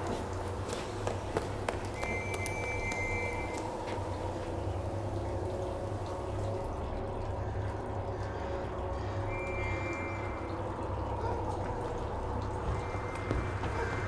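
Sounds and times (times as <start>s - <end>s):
steady low rumble: 2.7s - 14.0s.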